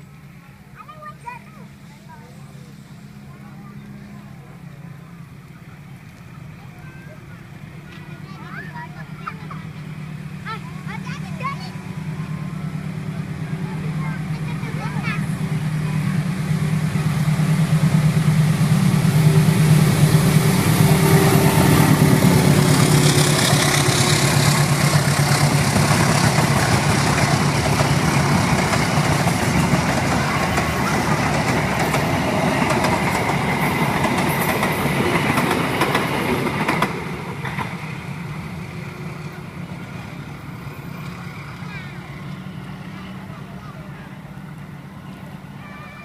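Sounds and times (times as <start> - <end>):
diesel locomotive engine hum: 0.0 - 46.0
train coaches rumbling on rails: 0.0 - 46.0.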